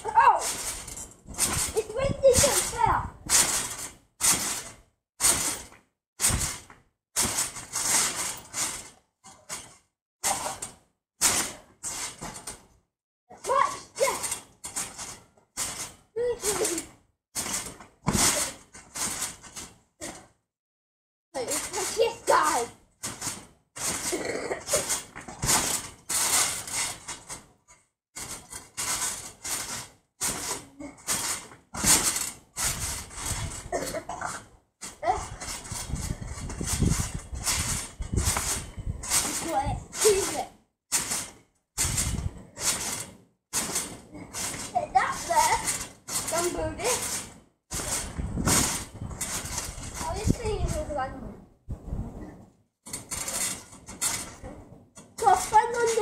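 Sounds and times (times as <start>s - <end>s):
trampoline springs creaking and rattling: 0.0s - 20.5s, 21.4s - 56.0s.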